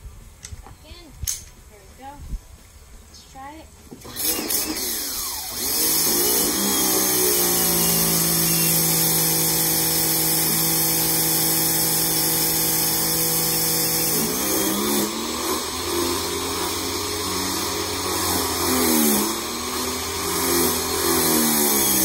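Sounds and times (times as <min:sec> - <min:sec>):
pressure washer motor humming: 0:04.0 - 0:22.0.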